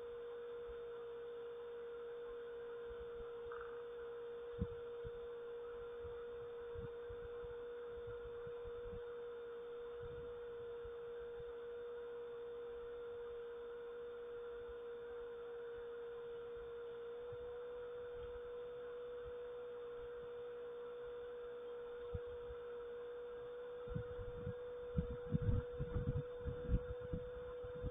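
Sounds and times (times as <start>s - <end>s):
steady hum: 0.0s - 27.9s.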